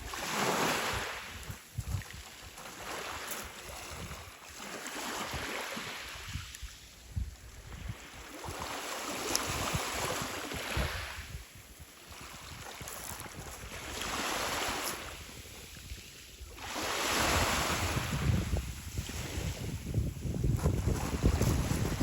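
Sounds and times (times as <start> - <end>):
sea waves breaking on shore: 0.0 - 22.0
wind buffeting microphone: 0.7 - 2.6, 3.6 - 4.3, 5.3 - 22.0.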